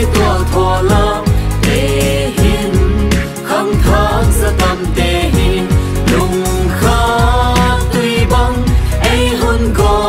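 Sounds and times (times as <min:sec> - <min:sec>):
loud music with sliding bass: 0:00.0 - 0:10.0.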